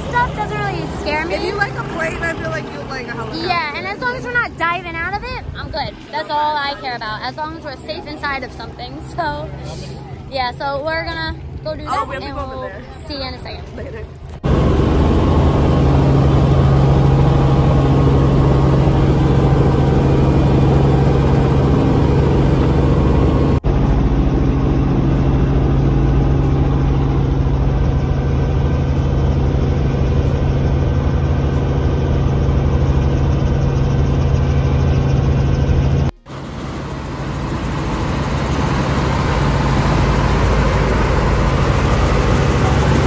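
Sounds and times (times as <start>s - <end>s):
helicopter engine and rotor drone: 0.0s - 43.0s.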